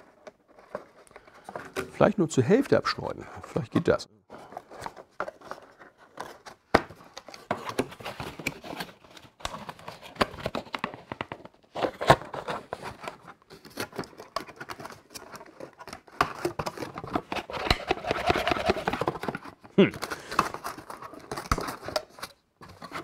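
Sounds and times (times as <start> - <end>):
cardboard rustling and scraping: 0.0 - 2.0, 4.3 - 23.0.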